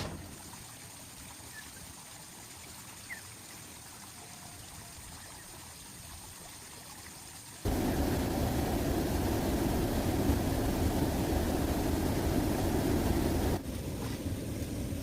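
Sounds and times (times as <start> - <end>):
water trickling: 0.0 - 13.6.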